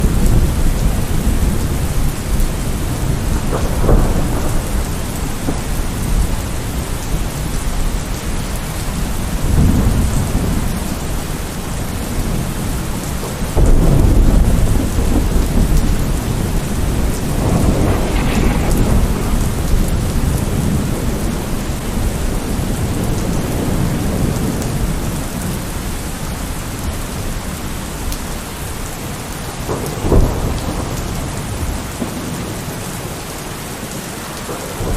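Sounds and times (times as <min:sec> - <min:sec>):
thunder rolling: 0:00.0 - 0:25.2, 0:29.6 - 0:32.8
rain falling: 0:00.0 - 0:34.9.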